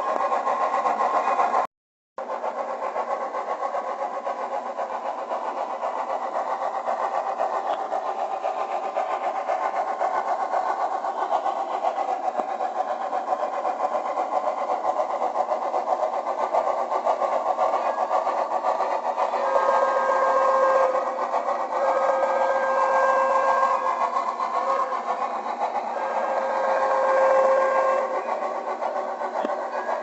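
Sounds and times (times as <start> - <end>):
model steam locomotive chuffing: 0.0 - 30.0.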